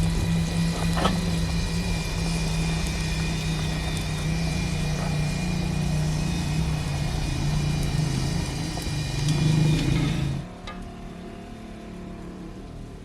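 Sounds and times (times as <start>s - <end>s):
motor humming: 0.0s - 10.5s.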